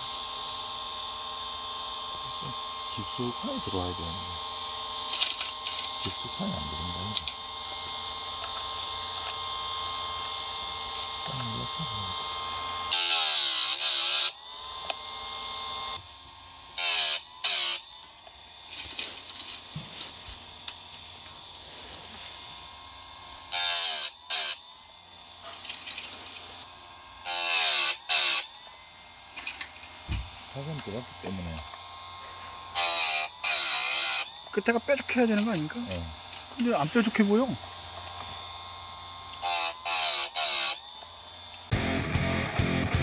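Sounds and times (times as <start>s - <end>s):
electric grinder whining: 0.0s - 43.0s.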